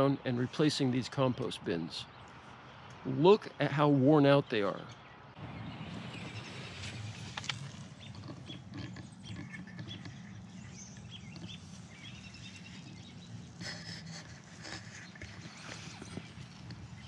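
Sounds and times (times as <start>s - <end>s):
outdoor background hum: 0.0s - 17.0s
small birds chirping: 0.1s - 17.0s.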